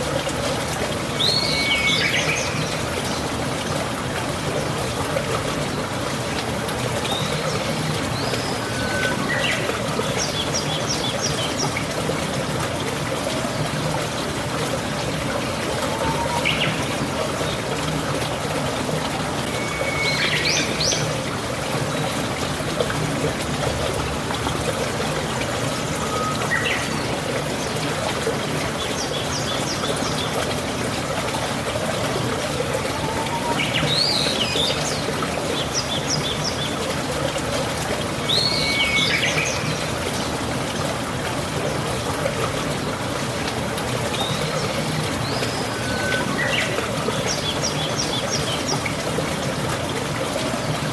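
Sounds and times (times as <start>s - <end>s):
steady rain: 0.0s - 50.9s
water trickling and pouring: 0.0s - 50.9s.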